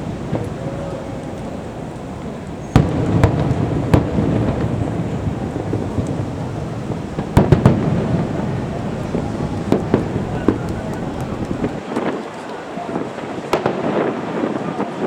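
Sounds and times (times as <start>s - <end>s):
fireworks bursting: 0.0s - 12.2s.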